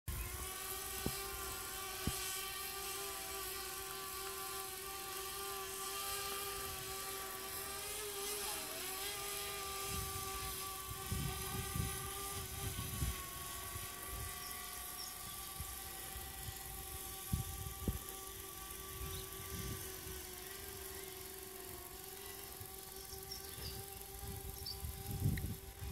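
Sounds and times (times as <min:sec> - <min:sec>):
drone propellers whining: 0:00.1 - 0:25.9.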